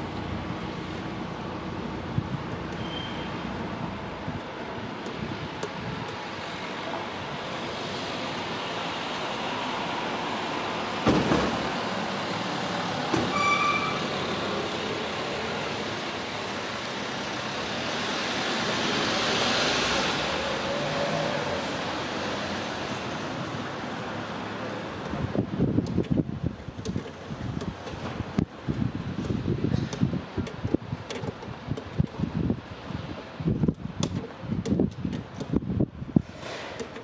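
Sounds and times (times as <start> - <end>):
outdoor background rush: 0.0 - 37.0.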